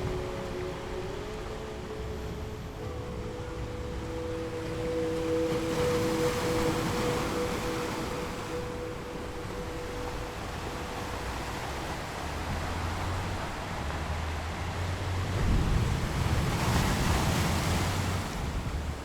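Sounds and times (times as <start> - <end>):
sea waves surging: 0.0 - 19.0
wind rumbling on microphone: 0.0 - 19.0.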